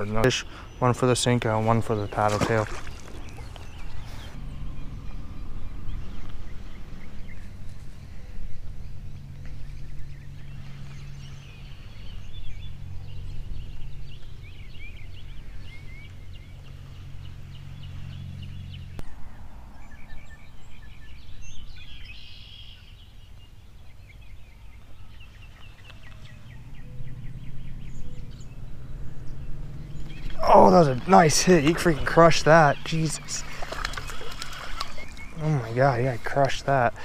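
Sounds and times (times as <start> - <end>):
steady low hum: 0.0 - 22.1, 23.0 - 37.0
songbirds chirping: 0.0 - 37.0.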